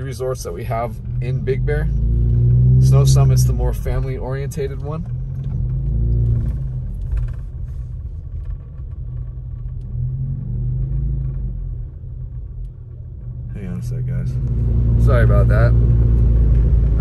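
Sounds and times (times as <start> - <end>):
car rumbling on wet street: 0.0 - 17.0.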